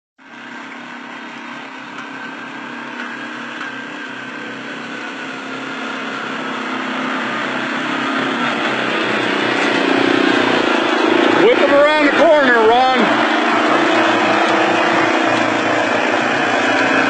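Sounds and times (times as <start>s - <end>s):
quad bike engine climbing: 0.2s - 17.0s.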